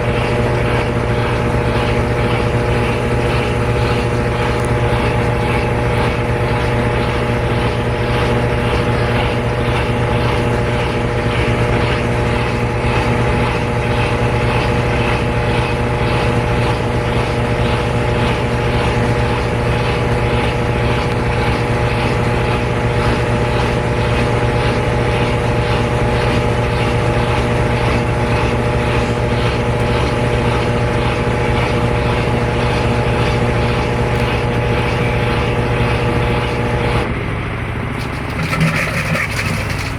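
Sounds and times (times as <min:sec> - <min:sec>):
motor hum: 0:00.0 - 0:39.9
washing machine spinning: 0:00.0 - 0:39.9.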